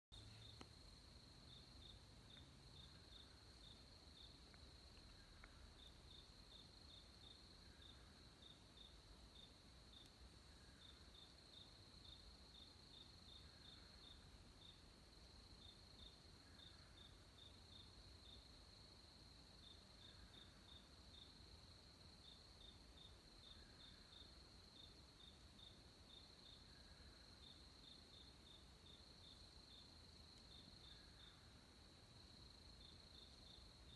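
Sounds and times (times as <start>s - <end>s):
crickets trilling and chirping: 0.2s - 33.9s.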